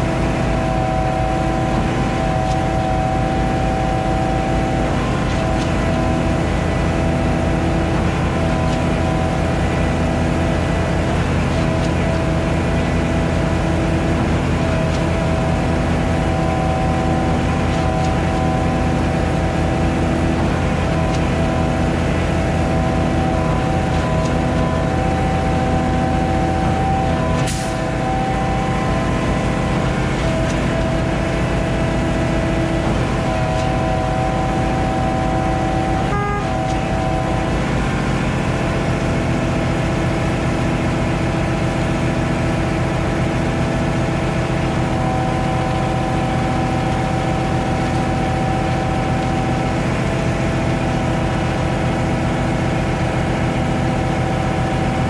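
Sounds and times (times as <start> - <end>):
pump truck engine running: 0.0 - 55.0.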